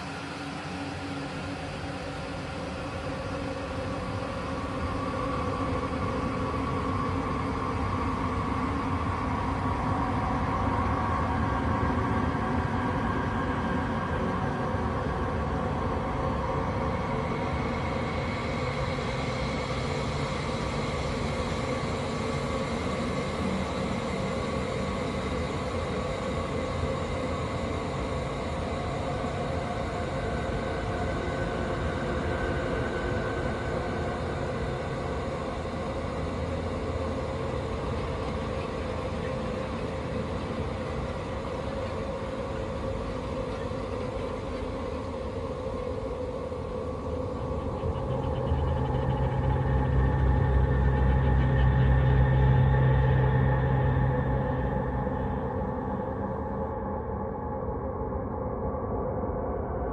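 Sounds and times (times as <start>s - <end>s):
rumbling dark ambient drone: 0.0s - 59.9s.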